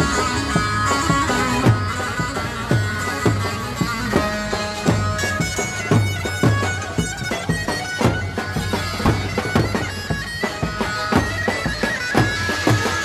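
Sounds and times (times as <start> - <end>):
drum beats: 0.0 - 13.0
reedy wind melody: 0.0 - 13.0.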